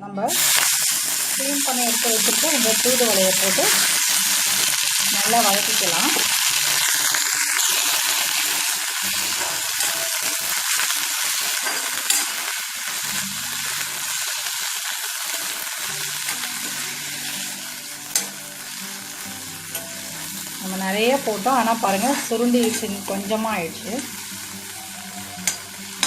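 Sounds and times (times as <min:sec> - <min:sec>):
leaves sizzling in a pan: 0:00.3 - 0:26.0.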